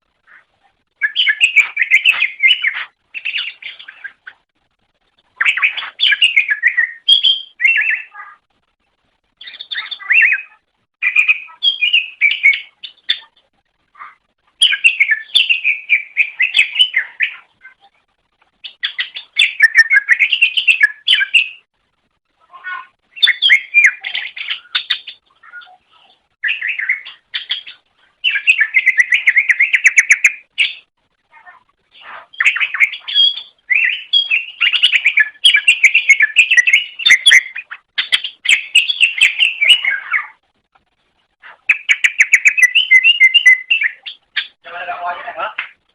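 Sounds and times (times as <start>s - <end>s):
bird chattering and warbling: 0.2s - 4.5s, 5.3s - 8.5s, 9.4s - 21.7s, 22.4s - 40.4s, 41.4s - 45.8s.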